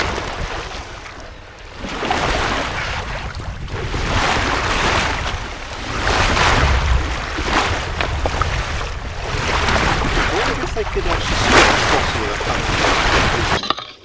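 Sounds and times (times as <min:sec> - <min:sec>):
water rushing along boat hull: 0:00.0 - 0:13.6
wind buffeting microphone: 0:01.7 - 0:13.6.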